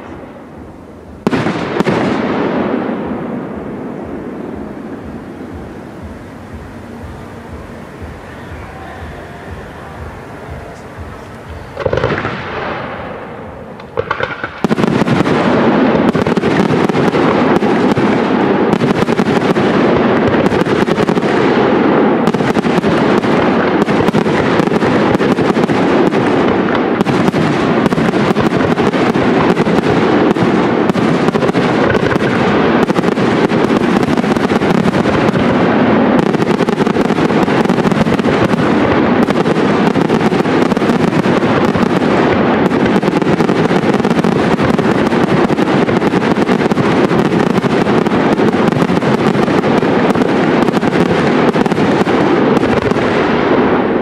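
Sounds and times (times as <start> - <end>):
fireworks launches and bursts: 0.0 - 54.0.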